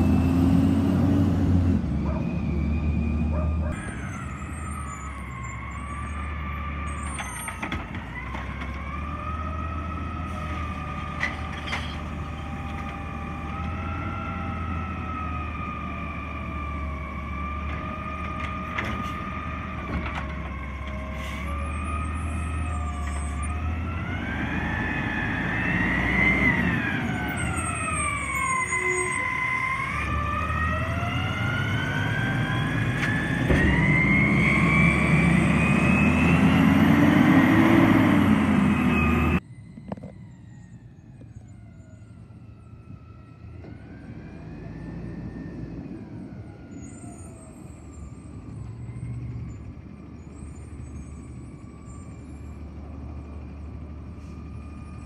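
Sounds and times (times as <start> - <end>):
truck engine hum: 0.0 - 55.0.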